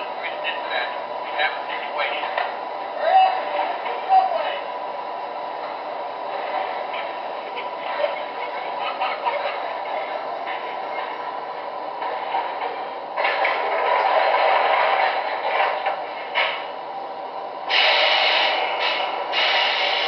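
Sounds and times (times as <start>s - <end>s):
model train running on track: 0.0s - 20.0s
train sound effects: 0.0s - 20.0s.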